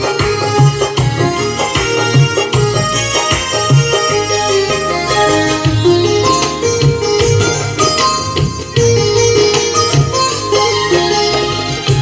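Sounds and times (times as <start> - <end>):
instrumental melody over beat: 0.0 - 12.0.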